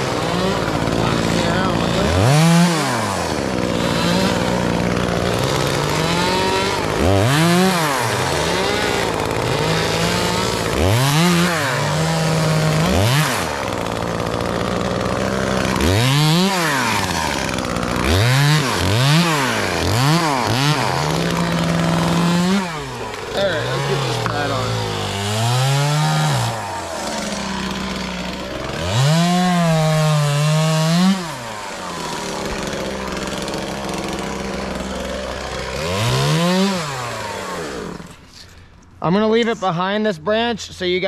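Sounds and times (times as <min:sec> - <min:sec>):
chainsaw revving: 0:00.0 - 0:41.0.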